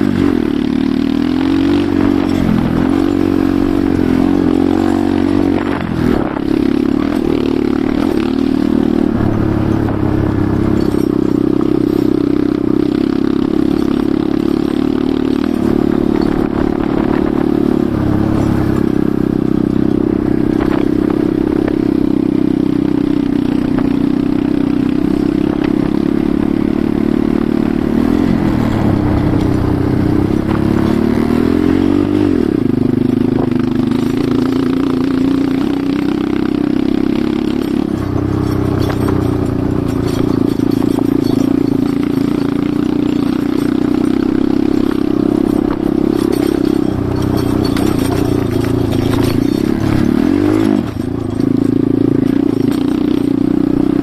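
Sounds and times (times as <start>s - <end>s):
motorcycle engine running: 0.0s - 54.0s
motorcycle rattling: 0.0s - 54.0s.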